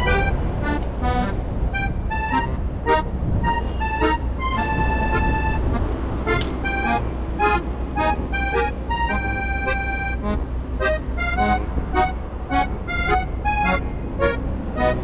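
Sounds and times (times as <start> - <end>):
background music melody: 0.0 - 15.0
steady low rumble: 0.0 - 15.0.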